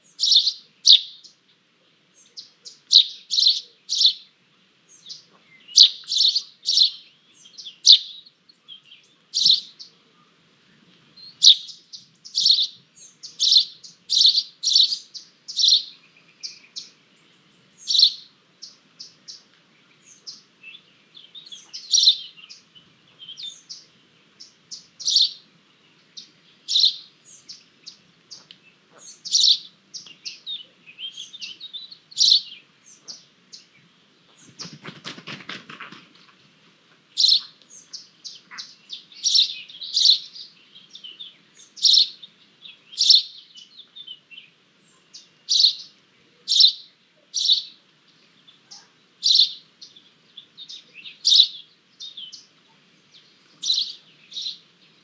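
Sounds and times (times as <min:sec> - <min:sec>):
bird chicks cheeping: 0:00.0 - 0:01.5, 0:02.2 - 0:04.3, 0:04.9 - 0:09.9, 0:11.2 - 0:35.7, 0:37.2 - 0:55.0.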